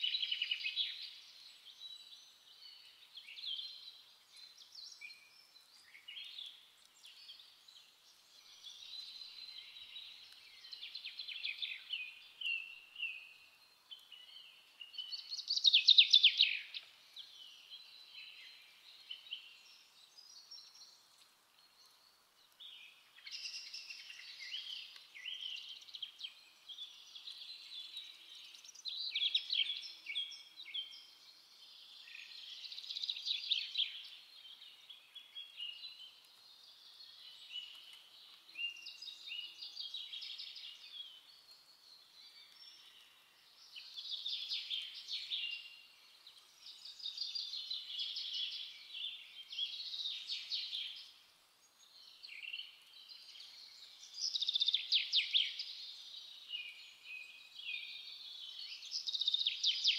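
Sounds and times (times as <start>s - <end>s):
finch twittering song: 0.0s - 59.9s.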